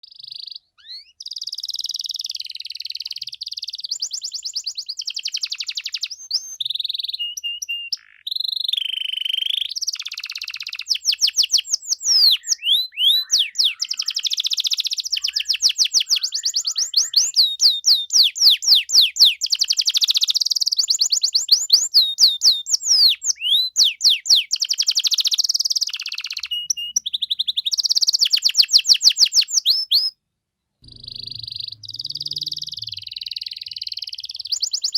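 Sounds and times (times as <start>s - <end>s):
canary singing trills: 0.0s - 30.2s, 30.8s - 34.9s.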